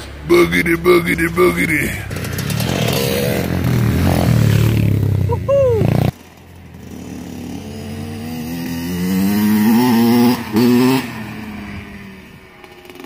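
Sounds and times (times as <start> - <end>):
dirt bike engine revving: 0.3 - 13.0.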